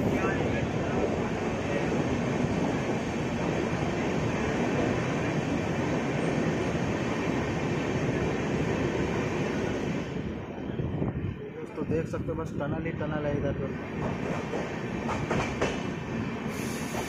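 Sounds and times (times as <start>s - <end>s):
train rumbling through tunnel: 0.0s - 17.0s.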